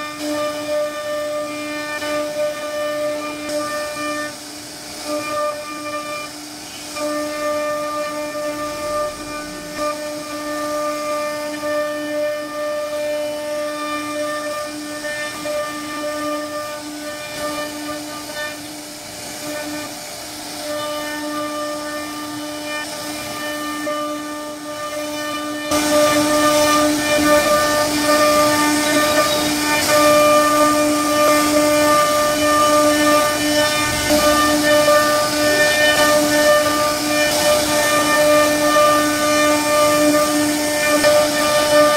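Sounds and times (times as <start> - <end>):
bit cutting wood hiss: 0.0 - 41.9
router spindle whine: 0.0 - 41.9.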